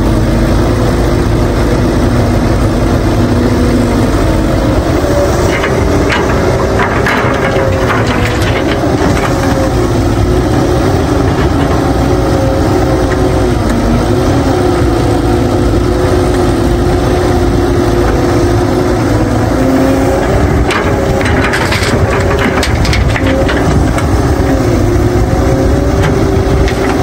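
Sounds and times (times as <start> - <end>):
excavator diesel engine working: 0.0 - 27.0.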